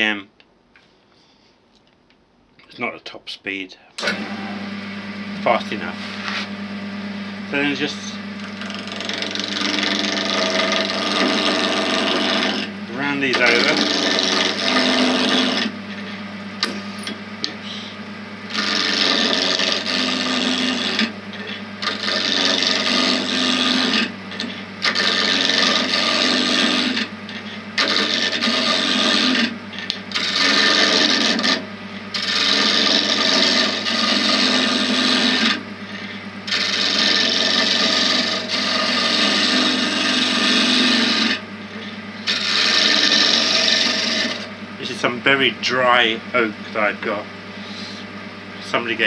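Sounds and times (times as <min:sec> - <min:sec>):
lathe humming: 0:04.0 - 0:49.0
gouge rasping on spinning wood: 0:07.5 - 0:49.0.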